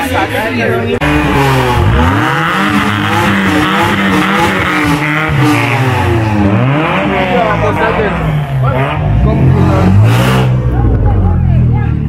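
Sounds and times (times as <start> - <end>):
vehicle engine revving: 1.0 - 12.0.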